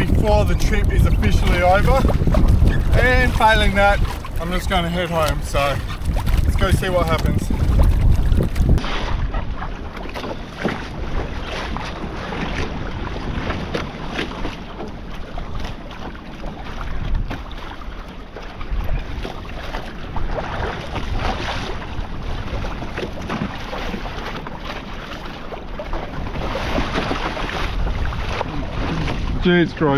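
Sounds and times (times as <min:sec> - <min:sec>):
water splashing against kayak hull: 0:00.0 - 0:29.9
wind buffeting microphone: 0:00.0 - 0:29.9.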